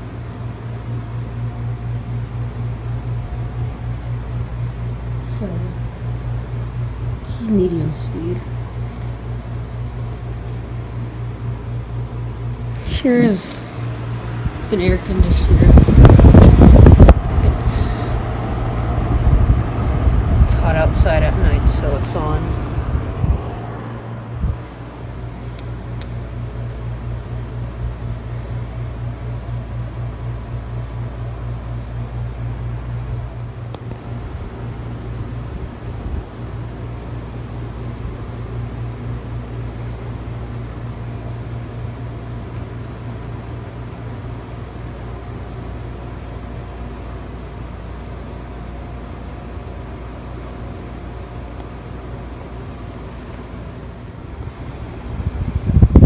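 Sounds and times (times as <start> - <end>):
ceiling fan pulsing hum: 0.0 - 56.0.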